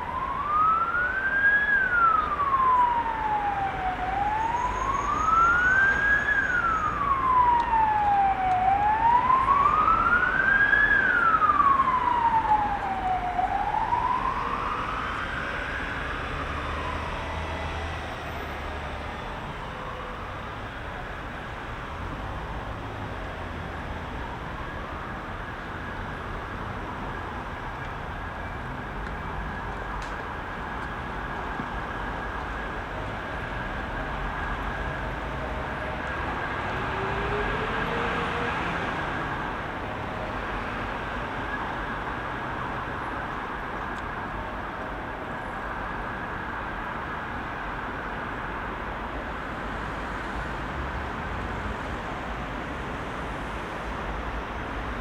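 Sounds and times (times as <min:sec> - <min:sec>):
road traffic roar: 0:00.0 - 0:55.0.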